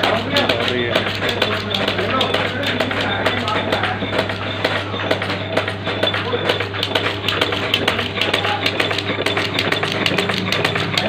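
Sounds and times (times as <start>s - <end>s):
machine clacking: 0.0s - 11.0s
motor hum: 0.0s - 11.0s.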